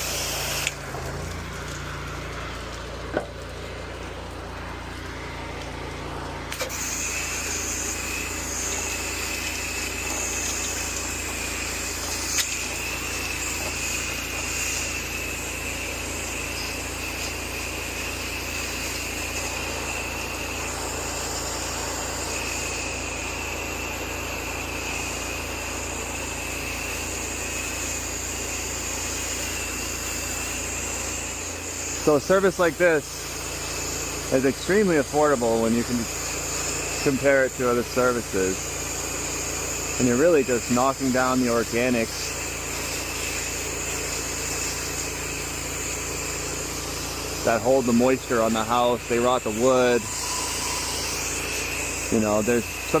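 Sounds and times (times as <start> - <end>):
pressure washer pump humming: 0.0 - 53.0
water jet hissing: 0.0 - 53.0.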